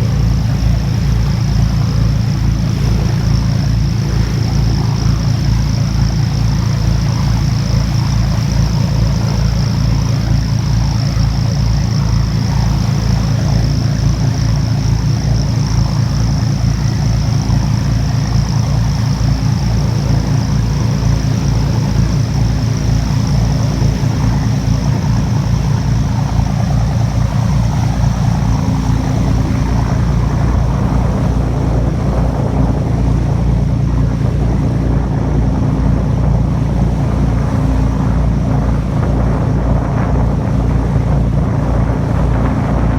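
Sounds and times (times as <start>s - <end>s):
boat engine throbbing: 0.0s - 42.9s.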